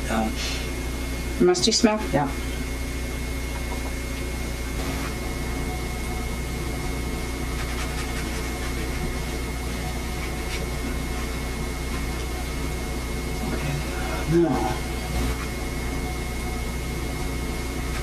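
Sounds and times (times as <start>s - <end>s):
camcorder hiss and hum: 0.0s - 18.0s.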